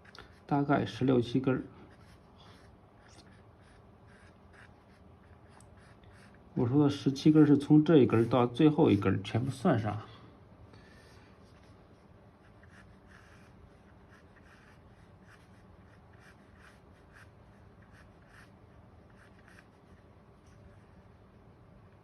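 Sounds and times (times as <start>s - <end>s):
brush stroking across paper: 0.0s - 9.7s, 10.8s - 21.2s
faint room hum: 0.0s - 22.0s.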